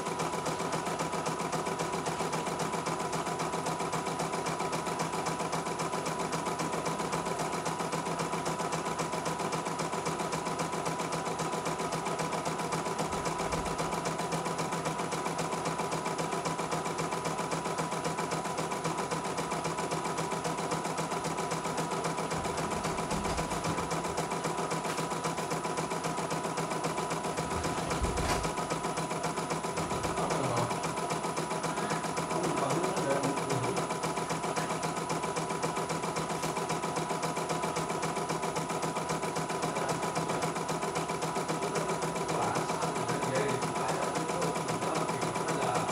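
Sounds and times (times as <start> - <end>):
embroidery machine stitching: 0.0 - 45.9.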